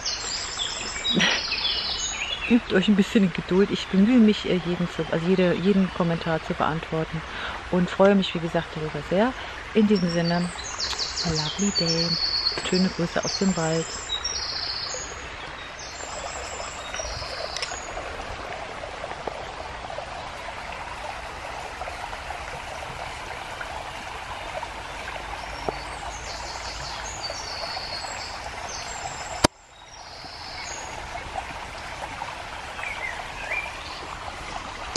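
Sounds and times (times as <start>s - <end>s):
brook babbling over stones: 0.0s - 34.9s.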